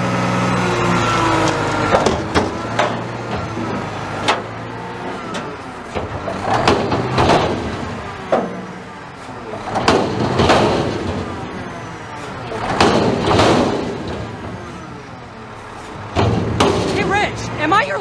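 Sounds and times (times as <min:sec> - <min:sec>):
garbage truck engine running: 0:00.0 - 0:18.0
trash clattering into hopper: 0:01.9 - 0:17.3.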